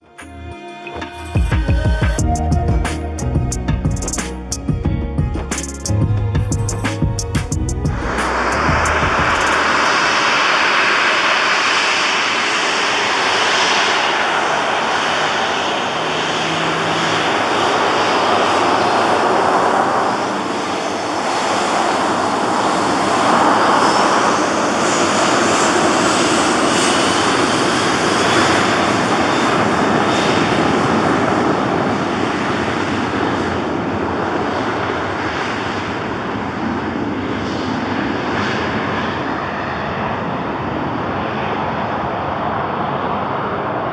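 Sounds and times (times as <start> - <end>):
jet engines roaring: 6.8 - 43.9.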